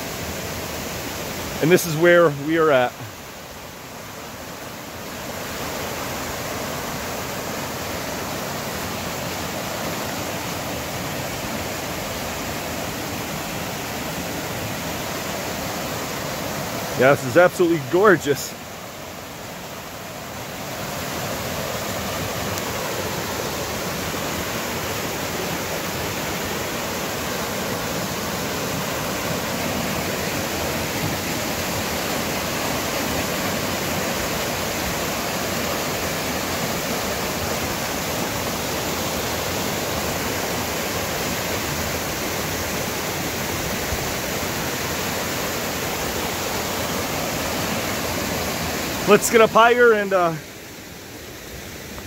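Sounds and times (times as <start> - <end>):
waterfall splashing: 0.0 - 52.0.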